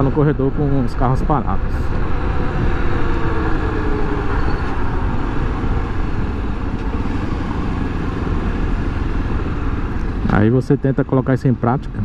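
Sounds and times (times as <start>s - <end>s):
wind rush: 0.0s - 10.9s
road noise: 0.0s - 12.0s.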